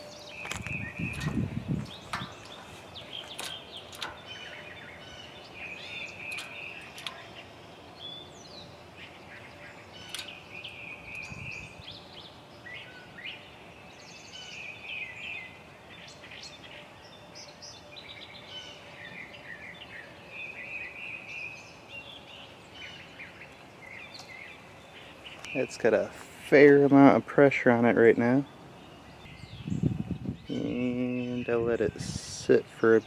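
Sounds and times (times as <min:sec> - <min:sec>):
songbirds twittering and singing: 0:00.0 - 0:33.0.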